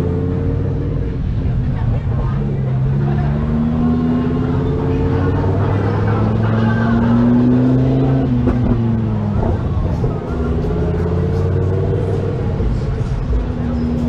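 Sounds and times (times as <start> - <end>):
car engine at low revs: 0.0 - 14.0.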